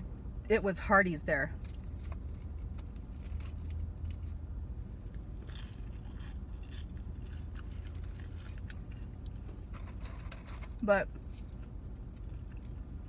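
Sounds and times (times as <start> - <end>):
low hum inside car: 0.0 - 13.0
food crinkling and crunching: 1.6 - 13.0.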